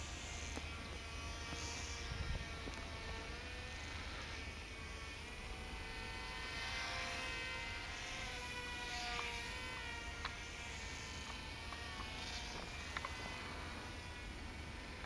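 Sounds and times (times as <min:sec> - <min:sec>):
toy plane propellers buzzing: 0:00.0 - 0:15.0.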